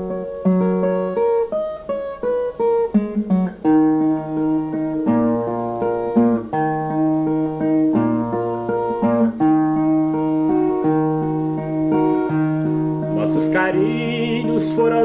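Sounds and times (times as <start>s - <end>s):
plucked viola melody: 0.0s - 15.0s.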